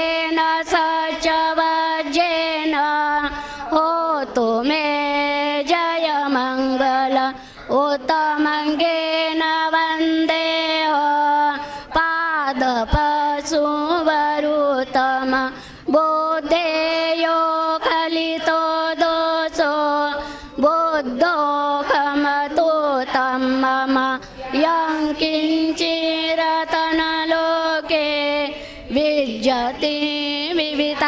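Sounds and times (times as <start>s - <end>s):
women chanting in unison: 0.0s - 31.0s.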